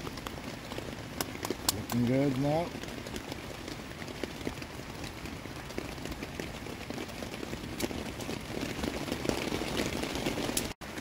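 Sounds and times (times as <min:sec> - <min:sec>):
rain on a tarp: 0:00.0 - 0:11.0.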